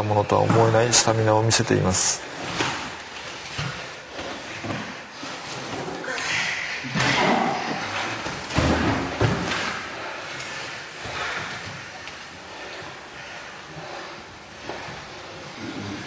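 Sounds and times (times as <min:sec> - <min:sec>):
bodies scuffling on a mat: 0:01.9 - 0:06.2, 0:06.8 - 0:16.0.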